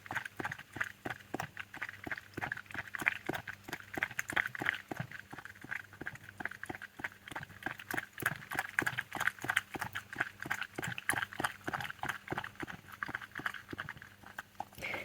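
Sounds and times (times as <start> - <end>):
fox lapping water: 0.0 - 15.0.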